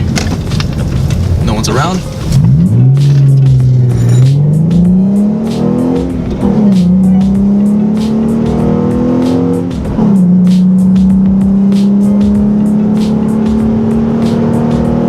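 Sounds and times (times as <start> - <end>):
car engine accelerating through gears: 0.0 - 15.0.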